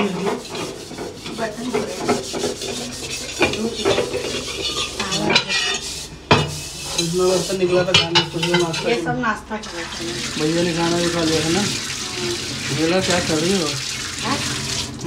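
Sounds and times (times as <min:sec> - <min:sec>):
dishes being scrubbed: 0:00.0 - 0:15.0.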